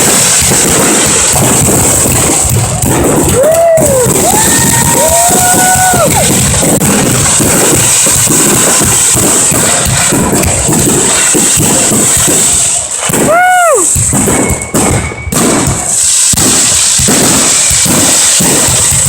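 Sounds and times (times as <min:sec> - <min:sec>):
firework whistle: 0:00.0 - 0:19.0
fireworks bangs and crackles: 0:00.0 - 0:19.0.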